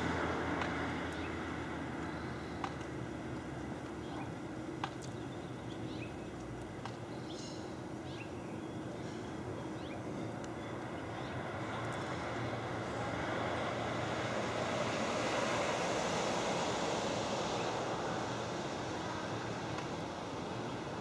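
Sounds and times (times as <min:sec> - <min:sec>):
distant traffic hum: 0:00.0 - 0:21.0.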